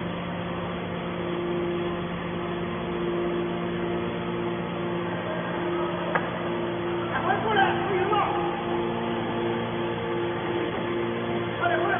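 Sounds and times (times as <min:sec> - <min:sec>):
baler machine humming: 0:00.0 - 0:11.9.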